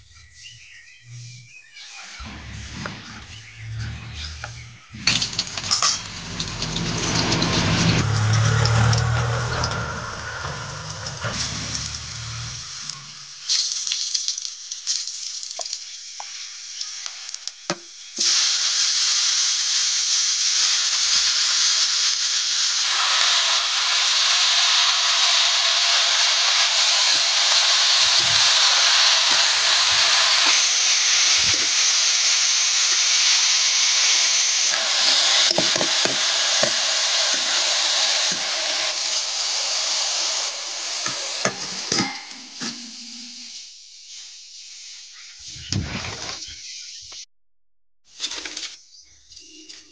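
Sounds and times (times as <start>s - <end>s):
hot oil sizzling in a pan: 1.9s - 45.6s.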